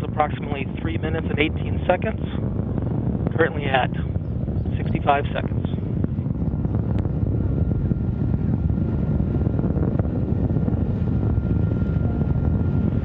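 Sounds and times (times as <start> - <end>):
rocket engines rough low rumble: 0.0 - 13.0.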